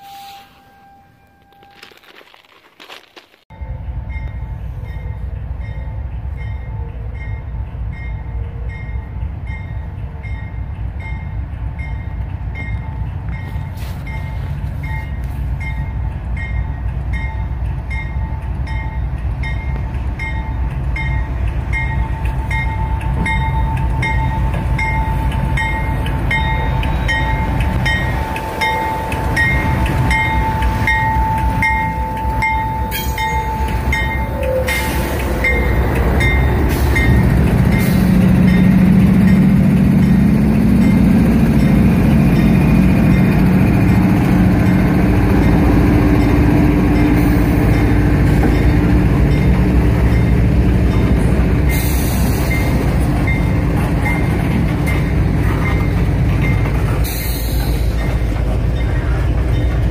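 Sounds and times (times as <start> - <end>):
diesel locomotive engine rumble: 3.4 - 59.9.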